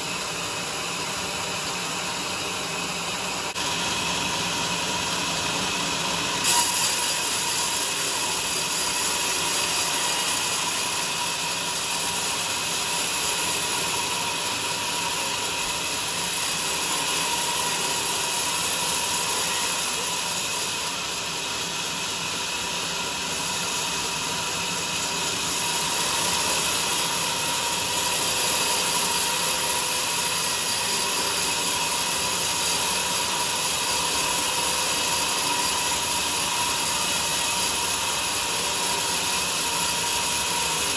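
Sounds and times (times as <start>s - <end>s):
sawmill saw cutting log: 0.0s - 40.9s.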